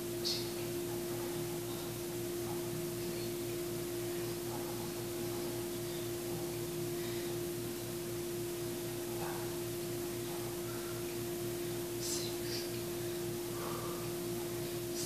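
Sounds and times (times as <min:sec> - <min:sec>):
faint pulsing throb: 0:00.0 - 0:15.0
steady hum: 0:00.0 - 0:15.0.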